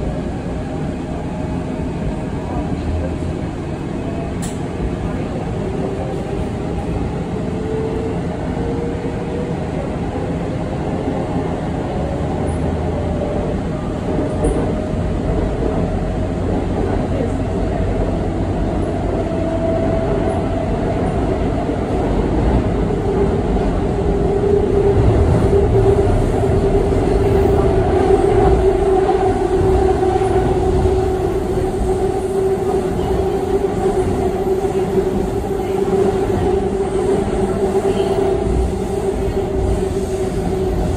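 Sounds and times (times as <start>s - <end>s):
train wheels rumbling on track: 0.0s - 40.9s.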